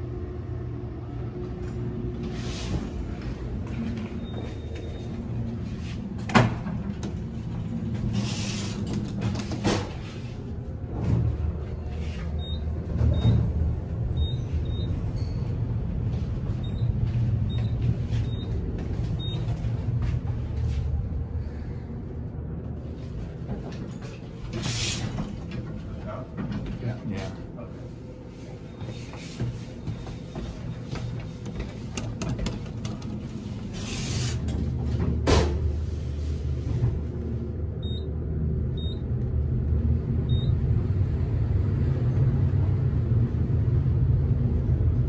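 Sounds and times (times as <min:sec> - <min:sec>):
sliding elevator doors: 0:00.0 - 0:44.9
steady low hum: 0:00.0 - 0:45.0.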